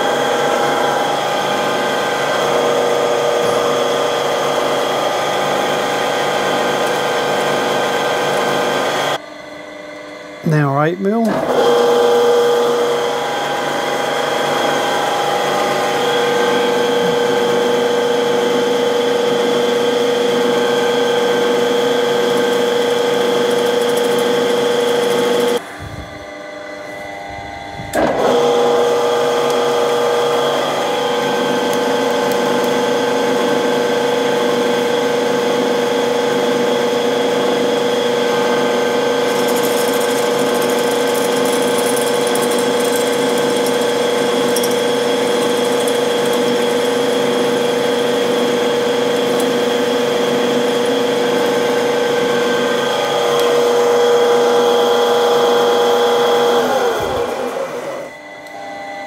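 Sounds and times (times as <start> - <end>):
milling machine spindle running: 0.0 - 59.0.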